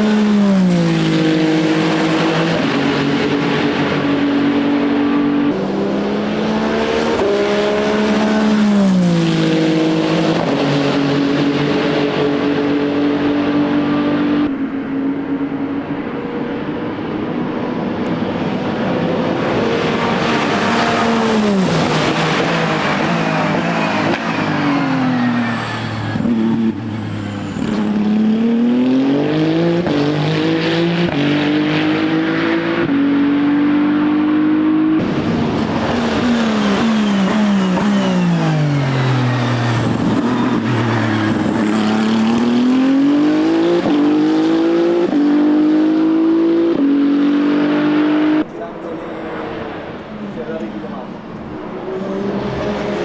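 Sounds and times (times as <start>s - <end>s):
race car downshifting and accelerating: 0.0s - 53.0s.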